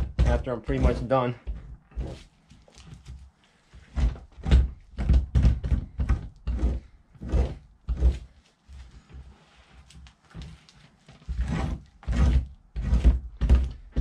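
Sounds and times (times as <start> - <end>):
tool scraping pelt: 0.0 - 14.0.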